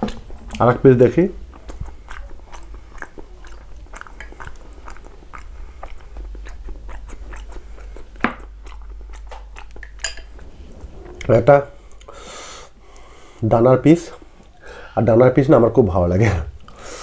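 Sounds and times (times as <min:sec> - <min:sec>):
chewing and wet mouth sounds: 0:00.0 - 0:14.6.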